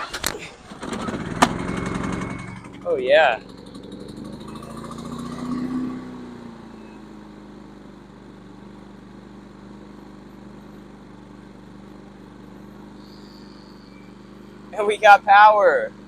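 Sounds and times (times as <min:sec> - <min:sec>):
generator engine running: 0:00.0 - 0:05.4, 0:06.6 - 0:16.0.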